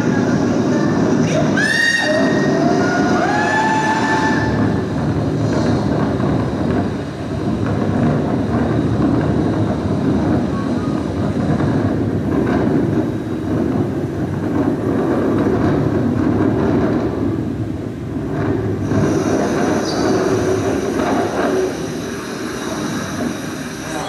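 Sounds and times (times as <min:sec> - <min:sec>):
storm surf breaking: 0:00.0 - 0:24.0.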